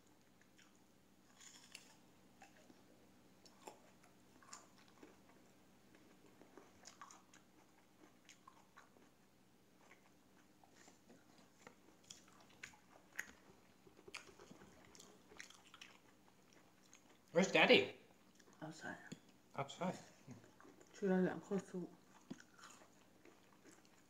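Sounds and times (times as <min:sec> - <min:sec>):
quiet chewing: 0:00.0 - 0:17.4, 0:18.0 - 0:24.0.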